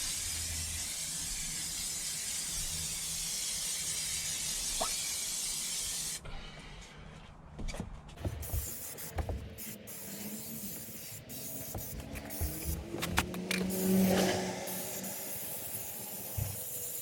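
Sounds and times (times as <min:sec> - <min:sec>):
spray hissing: 0:00.0 - 0:06.2, 0:08.2 - 0:17.0.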